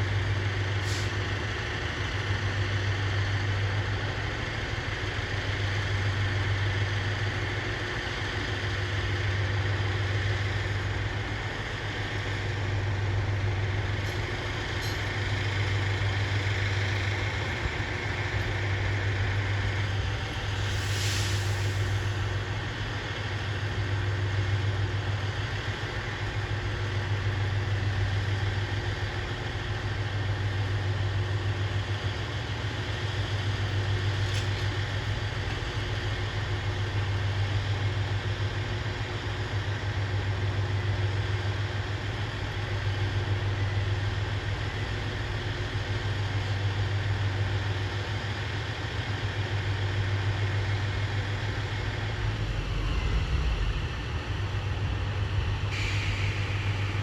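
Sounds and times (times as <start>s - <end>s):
diesel railcar engine idling: 0.0s - 57.0s.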